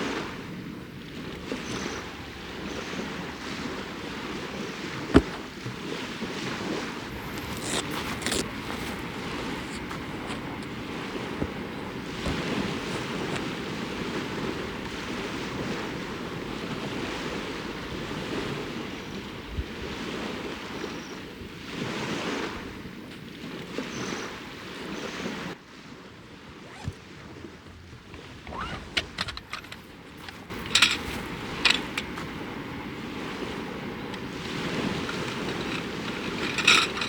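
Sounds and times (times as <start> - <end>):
wind buffeting microphone: 0.0 - 25.5, 26.2 - 37.0
small waves washing ashore: 0.0 - 37.0.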